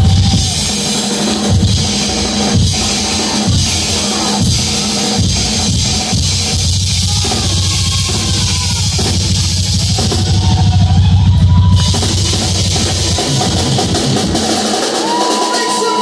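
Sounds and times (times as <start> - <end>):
bass drum: 0.0 - 15.2
cymbals: 0.0 - 16.0
live rock band: 0.0 - 16.0.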